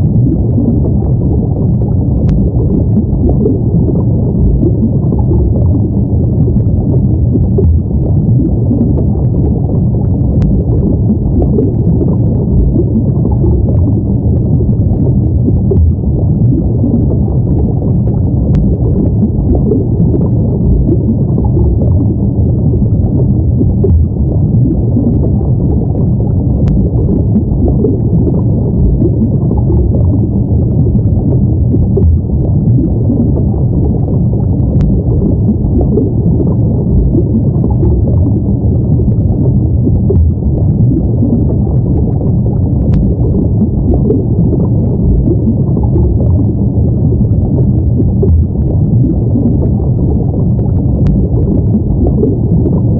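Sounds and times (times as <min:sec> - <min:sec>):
underwater rumble of moving water: 0:00.0 - 0:52.9.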